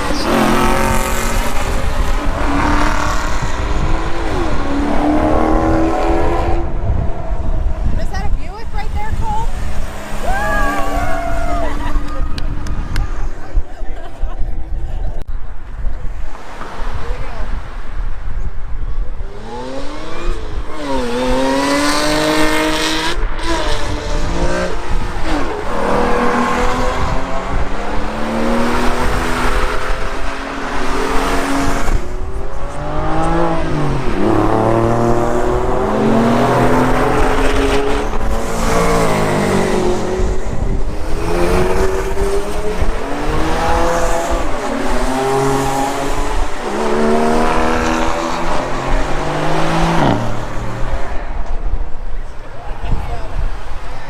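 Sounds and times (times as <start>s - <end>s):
car engine revving: 0.0s - 13.3s, 19.2s - 51.7s.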